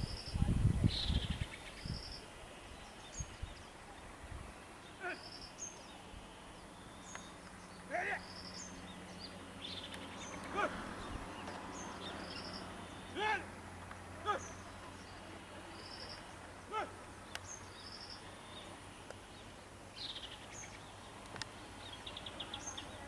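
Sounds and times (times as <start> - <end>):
bird chirping: 0.0 - 13.4, 14.2 - 23.0
arched bird calls: 0.0 - 13.5, 14.2 - 23.0.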